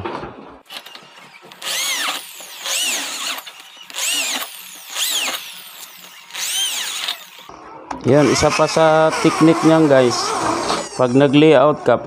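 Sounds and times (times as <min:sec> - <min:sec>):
electric drill boring metal: 0:00.7 - 0:07.5, 0:08.2 - 0:11.7.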